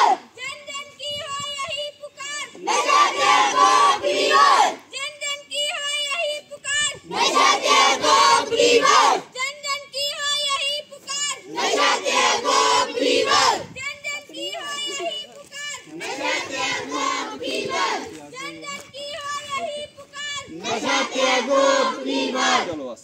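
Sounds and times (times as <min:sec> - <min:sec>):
children shouting together: 0:00.0 - 0:22.7.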